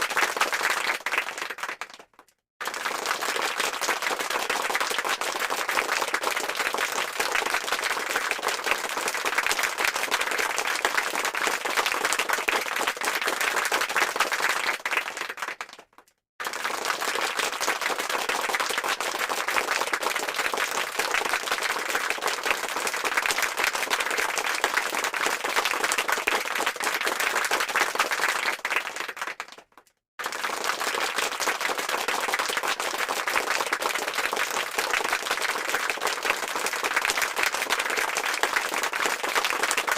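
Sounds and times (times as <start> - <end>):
many hands clapping: 0.0 - 39.9.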